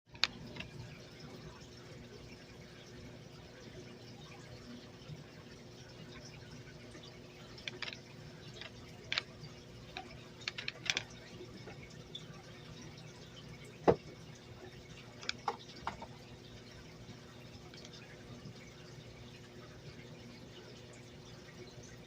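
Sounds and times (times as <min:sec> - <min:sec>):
aquarium water dripping and splashing: 0:00.1 - 0:22.0.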